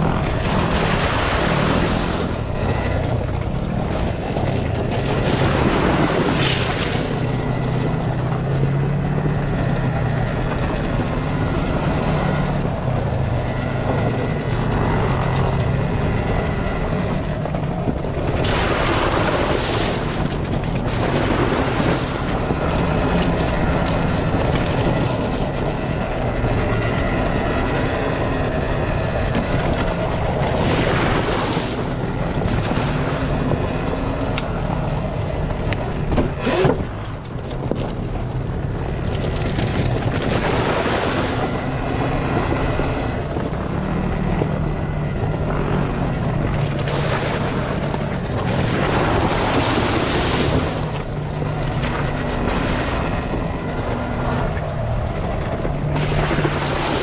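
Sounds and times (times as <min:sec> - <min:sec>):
electric motorbike motor whine: 0:00.0 - 0:57.0
tyres rushing on dirt: 0:00.0 - 0:57.0
wind on microphone: 0:00.0 - 0:57.0.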